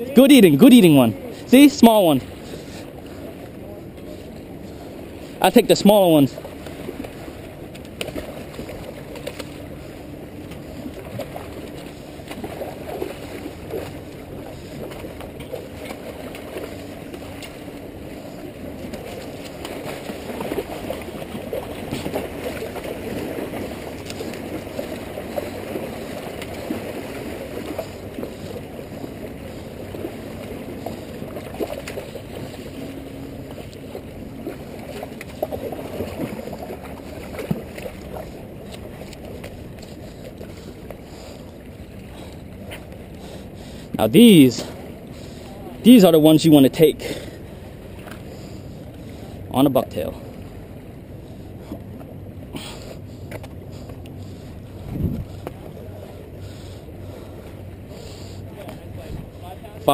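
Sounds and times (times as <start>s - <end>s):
waves splashing against rocks: 0.0s - 50.8s.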